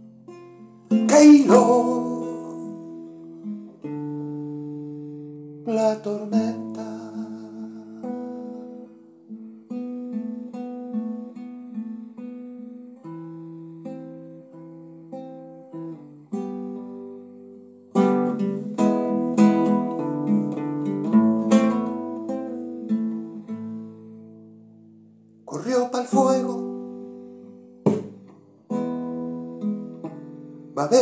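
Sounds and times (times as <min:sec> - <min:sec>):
classical guitar playing: 0:00.0 - 0:31.0.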